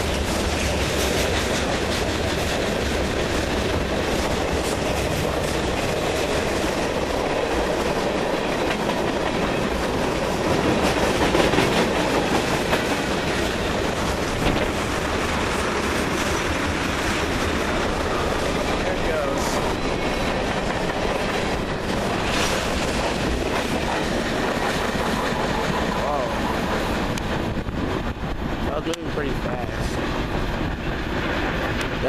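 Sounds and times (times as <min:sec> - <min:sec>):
freight train wheels clicking: 0:00.0 - 0:32.0.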